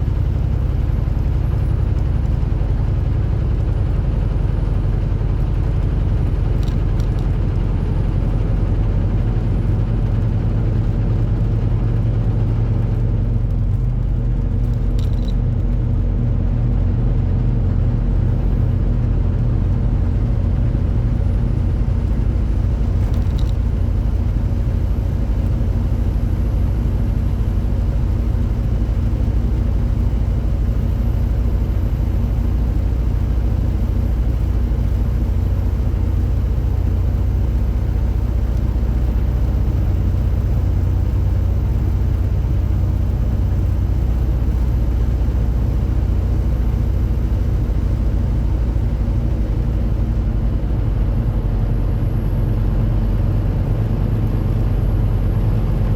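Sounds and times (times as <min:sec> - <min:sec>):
road and tyre noise: 0:00.0 - 0:55.9
truck engine drone: 0:00.0 - 0:55.9.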